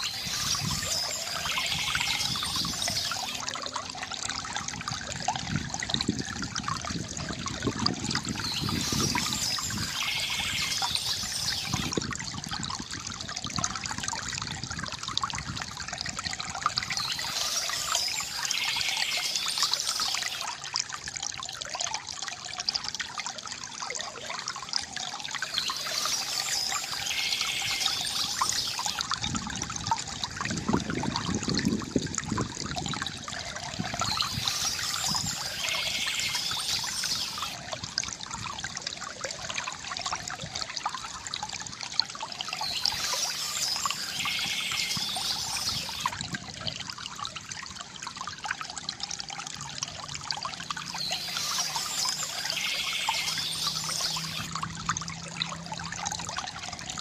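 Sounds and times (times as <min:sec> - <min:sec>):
stream trickling over stones: 0:00.0 - 0:57.0.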